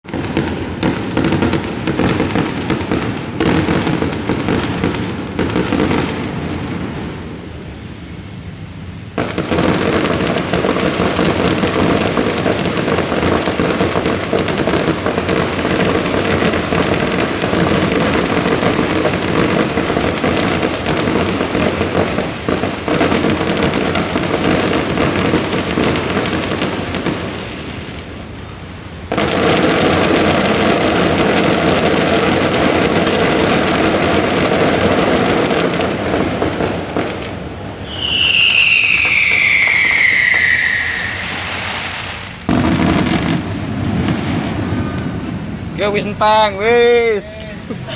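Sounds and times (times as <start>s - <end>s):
fireworks crackling and popping: 0.0s - 47.9s.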